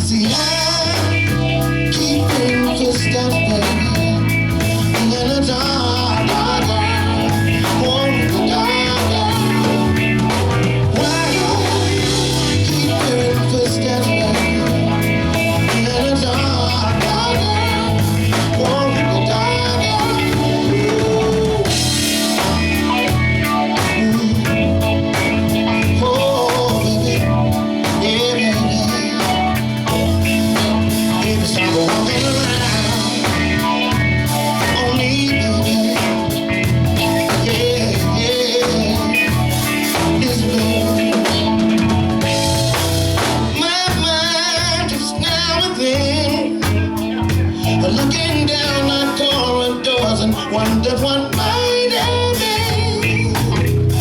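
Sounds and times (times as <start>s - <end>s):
live soul band playing: 0.0s - 54.0s.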